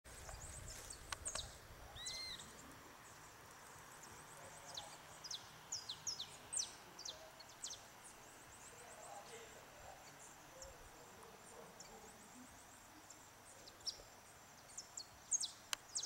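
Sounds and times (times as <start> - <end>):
wild birds chirping: 0.1 - 16.0.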